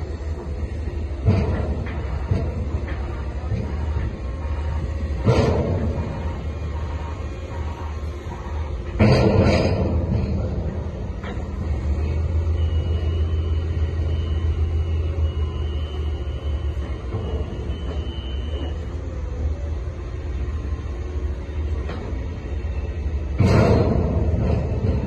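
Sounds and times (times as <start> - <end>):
excavator diesel engine rumbling: 0.0 - 25.0.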